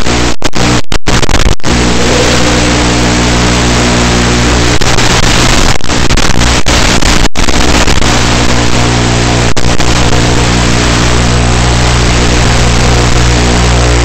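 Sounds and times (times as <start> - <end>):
static hiss with buzzing hum: 0.0 - 14.0.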